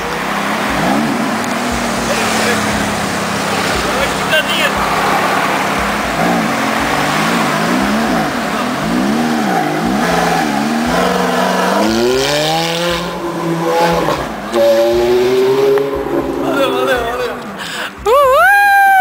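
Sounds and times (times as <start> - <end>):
sports car engine revving: 0.0 - 17.7
car accelerating away: 0.0 - 18.0.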